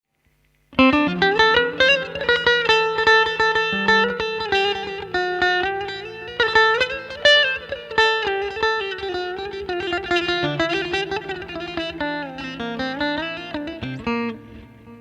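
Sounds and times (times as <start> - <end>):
plucked electric lute melody: 0.7 - 15.0.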